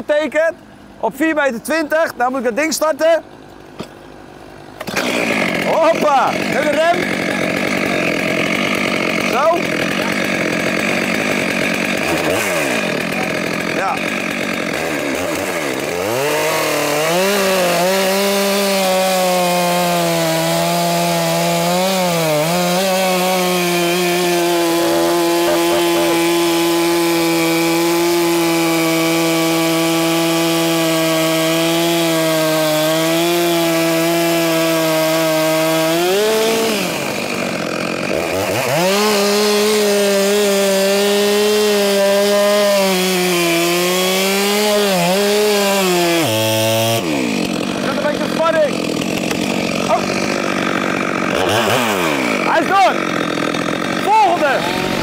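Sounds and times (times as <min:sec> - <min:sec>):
chainsaw cutting wood: 0:02.5 - 0:55.0.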